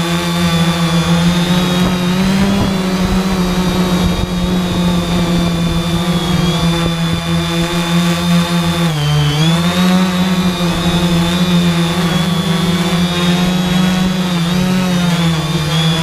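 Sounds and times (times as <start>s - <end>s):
quadcopter propellers humming: 0.0s - 16.0s
wind rumbling on microphone: 0.5s - 16.0s.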